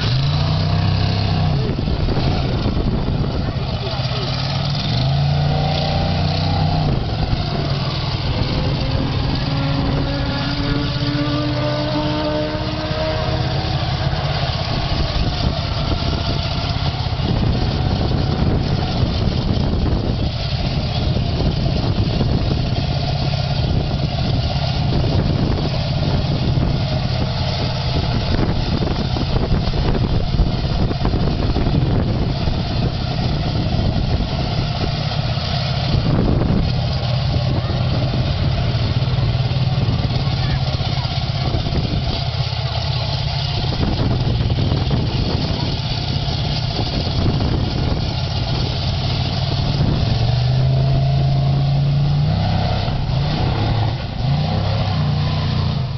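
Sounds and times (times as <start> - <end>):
big truck engine revving: 0.0 - 55.9.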